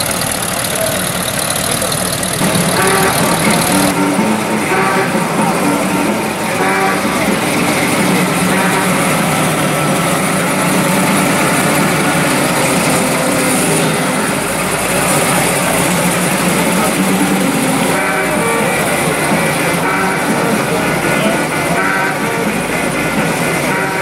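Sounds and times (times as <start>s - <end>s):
car engine running loudly: 0.0s - 24.0s.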